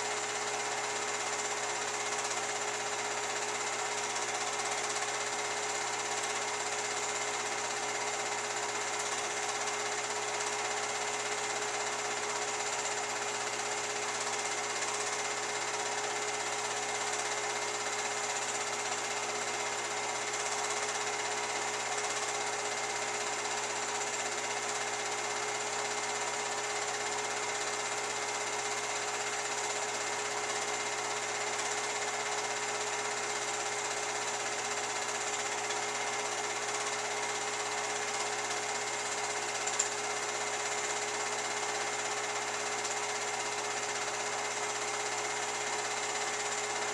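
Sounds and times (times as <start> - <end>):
film projector whirring: 0.0 - 46.9.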